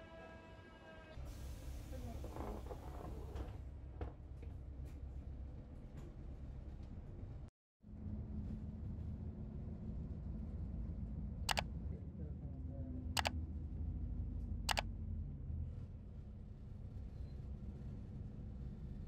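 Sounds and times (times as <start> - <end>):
bus engine and road rumble: 1.2 - 19.0.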